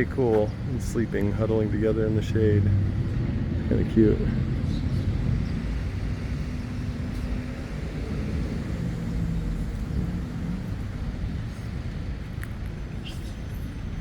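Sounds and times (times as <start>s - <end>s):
faint engine hum: 0.0s - 14.0s
traffic rumble: 0.0s - 14.0s.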